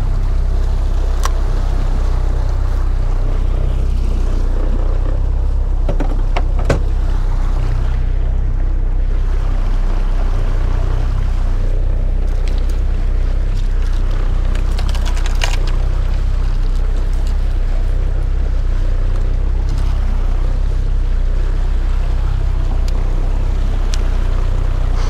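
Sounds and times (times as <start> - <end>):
outboard motor running: 0.0 - 25.0
water rushing along hull: 0.0 - 25.0.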